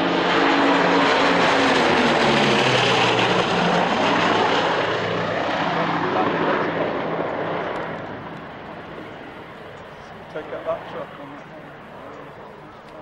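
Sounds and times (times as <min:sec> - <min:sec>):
propeller rush: 0:00.0 - 0:13.0
radial aircraft engines roaring: 0:00.0 - 0:13.0.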